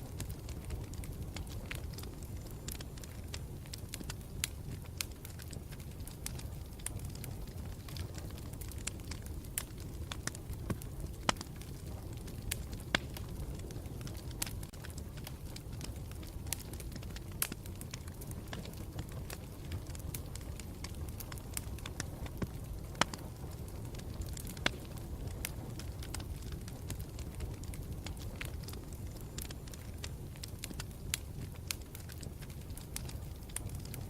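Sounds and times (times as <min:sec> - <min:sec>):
campfire crackling and popping: 0:00.0 - 0:34.0.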